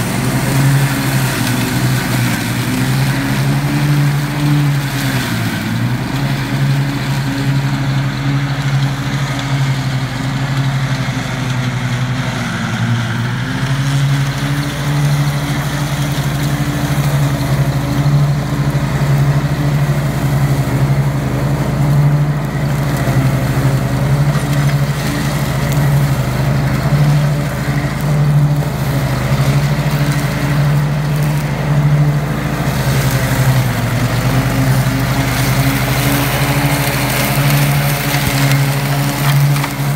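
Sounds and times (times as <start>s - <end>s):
lawn tractor engine running: 0.0s - 39.9s
mower cutting brambles: 0.0s - 39.9s.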